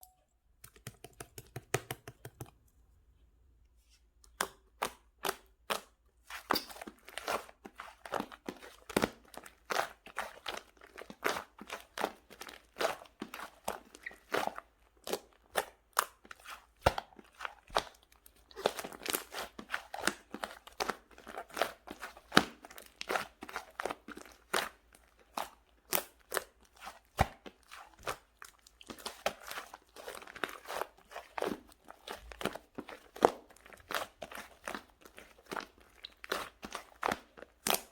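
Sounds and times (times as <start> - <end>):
slime clicking and crackling: 7.2 - 37.9.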